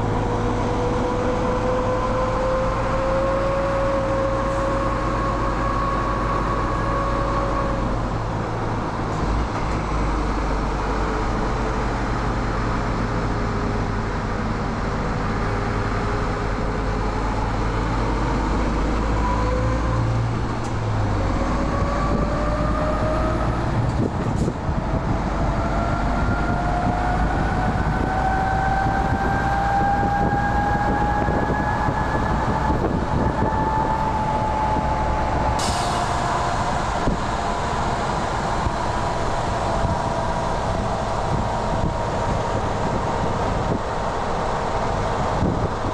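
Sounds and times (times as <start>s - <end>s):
truck diesel engine droning: 0.0s - 45.9s.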